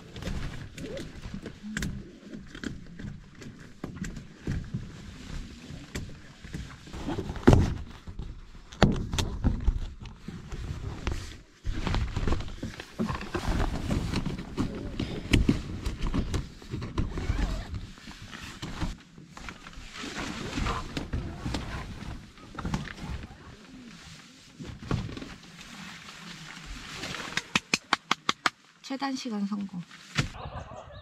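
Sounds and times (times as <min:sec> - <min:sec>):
nylon tent fabric rustling: 0:00.0 - 0:08.7, 0:10.2 - 0:27.8.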